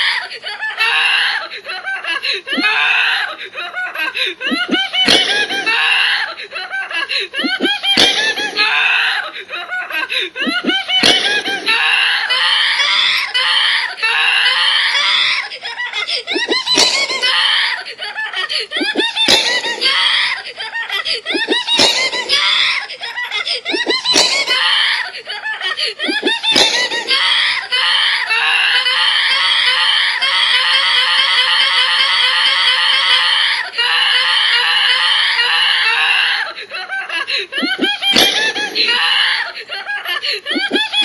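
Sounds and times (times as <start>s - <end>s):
high-pitched voice laughing and screaming: 0.0s - 41.0s.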